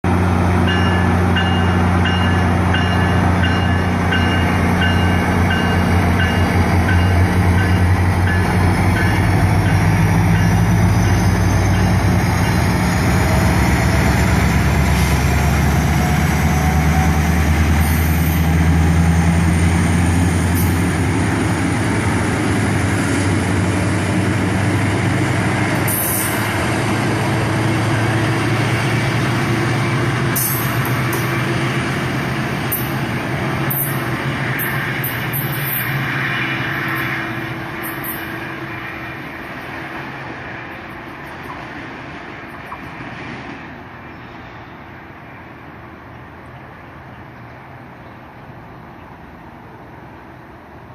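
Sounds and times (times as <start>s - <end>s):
locomotive rumble: 0.0s - 50.9s
train whine rising in pitch: 0.1s - 41.5s.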